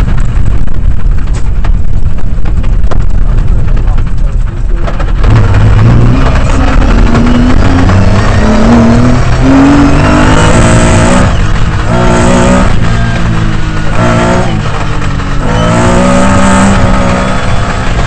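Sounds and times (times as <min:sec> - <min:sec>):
car driving on gravel: 0:00.0 - 0:18.0
rally engine revving through gears: 0:03.0 - 0:18.0.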